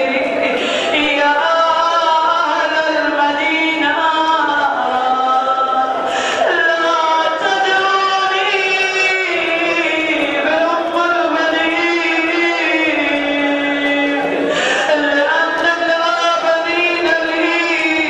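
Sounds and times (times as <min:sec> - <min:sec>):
melodic vocal chanting: 0:00.0 - 0:18.0.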